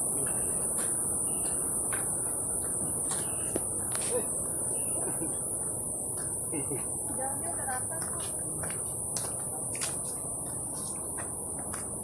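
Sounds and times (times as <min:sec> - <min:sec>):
insects droning: 0:00.0 - 0:12.0
low outdoor rush: 0:00.0 - 0:12.0.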